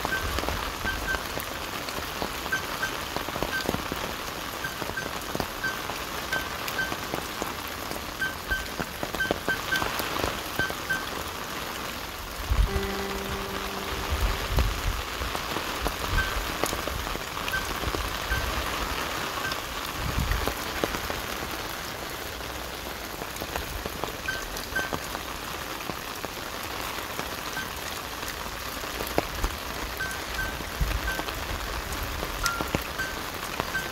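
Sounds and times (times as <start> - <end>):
water drips: 0.0 - 11.9, 12.6 - 33.9
rain falling on leaves: 0.0 - 33.9.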